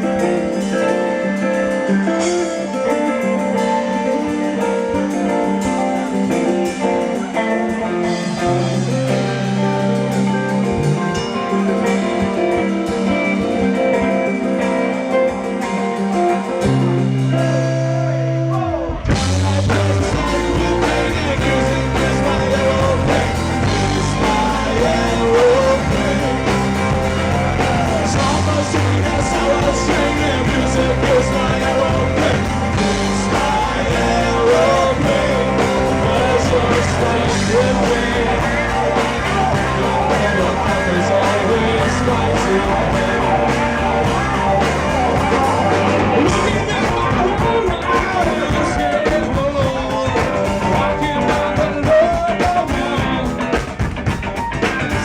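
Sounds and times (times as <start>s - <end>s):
busy bass line: 0.0s - 55.0s
funk rock band playing: 0.0s - 55.0s.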